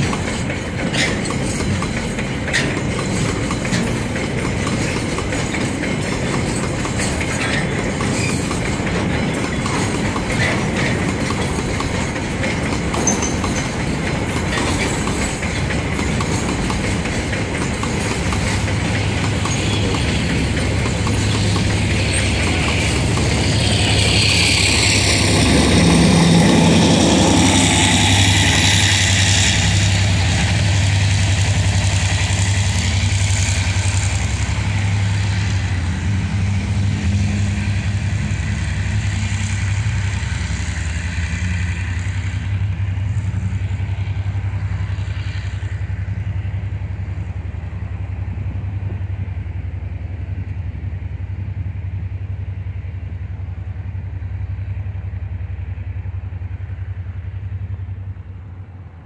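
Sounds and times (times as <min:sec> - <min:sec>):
hiss of passing wagons: 0:00.0 - 0:48.9
locomotive engine drone: 0:00.0 - 0:59.0.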